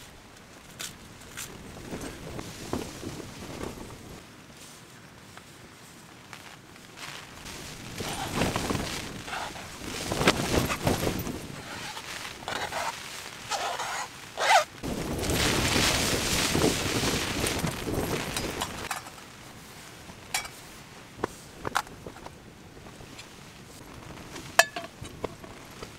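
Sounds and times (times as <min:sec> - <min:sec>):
rustling of clothing and gear: 0:00.0 - 0:25.9.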